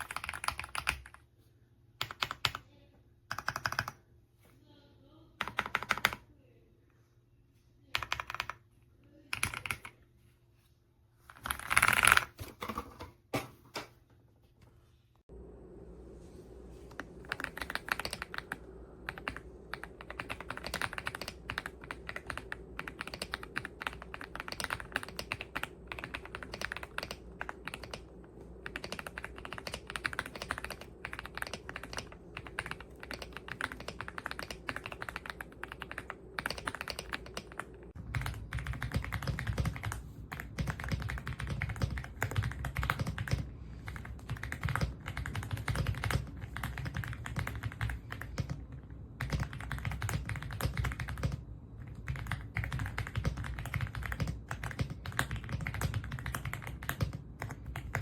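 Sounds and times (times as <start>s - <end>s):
mechanical keyboard typing: 0.0s - 1.2s, 2.0s - 2.6s, 3.3s - 4.0s, 5.4s - 6.2s, 7.9s - 8.6s, 9.2s - 10.0s, 11.3s - 12.4s, 16.9s - 58.0s.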